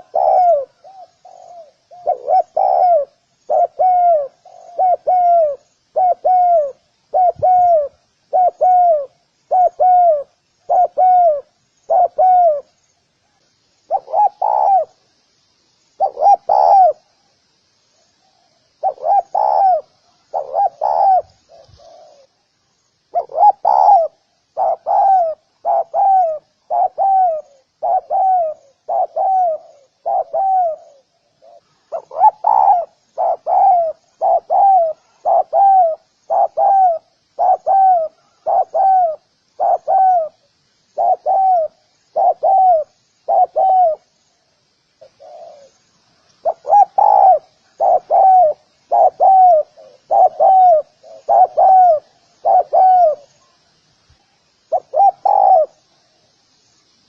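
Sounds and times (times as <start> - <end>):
dove cooing: 0.0 - 12.8, 13.9 - 15.0, 16.0 - 17.2, 18.2 - 22.4, 23.1 - 44.1, 45.0 - 53.7, 54.7 - 55.8.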